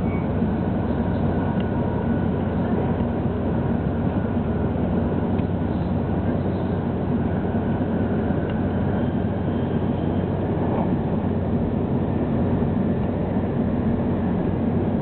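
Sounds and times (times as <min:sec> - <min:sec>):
train cabin rumble: 0:00.0 - 0:15.0.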